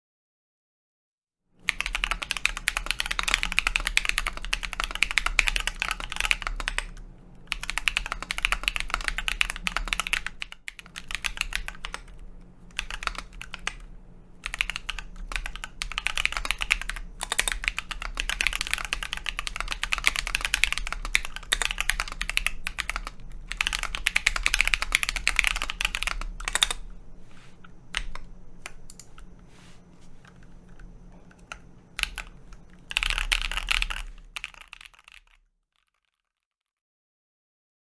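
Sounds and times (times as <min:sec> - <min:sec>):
mechanical keyboard typing: 0:01.6 - 0:27.0, 0:27.6 - 0:29.5, 0:30.2 - 0:35.4.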